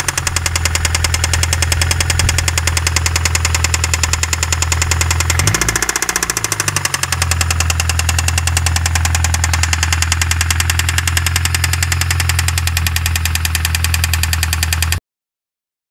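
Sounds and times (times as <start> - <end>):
engine running with rhythmic knock: 0.0 - 15.0.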